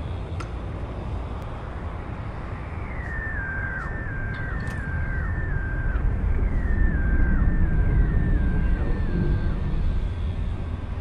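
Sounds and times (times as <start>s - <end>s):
low rumble: 1.6s - 11.0s.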